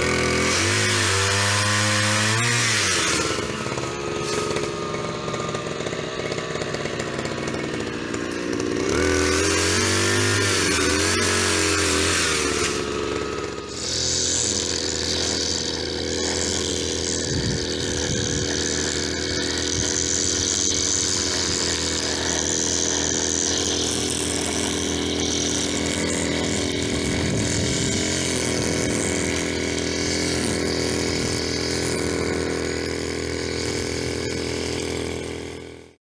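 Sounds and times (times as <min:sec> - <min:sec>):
string trimmer engine running: 0:00.0 - 0:36.0.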